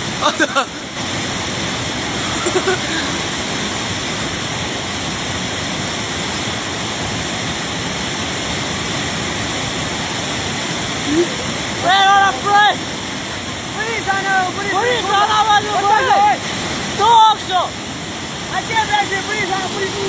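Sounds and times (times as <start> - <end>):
river torrent rushing: 0.0 - 20.0.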